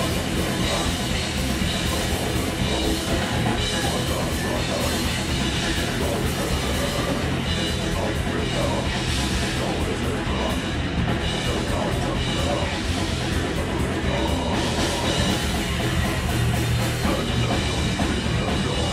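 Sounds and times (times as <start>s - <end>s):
heavy metal band playing live: 0.0s - 18.9s.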